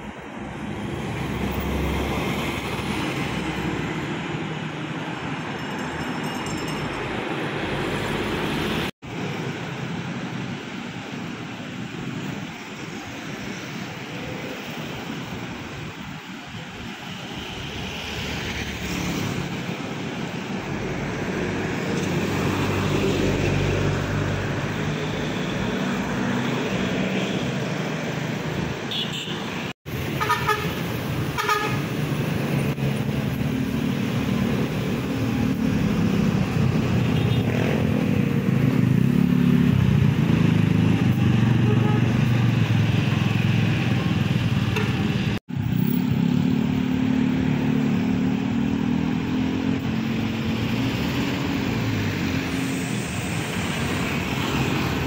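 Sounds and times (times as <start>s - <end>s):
traffic passing close by: 0.0s - 55.0s.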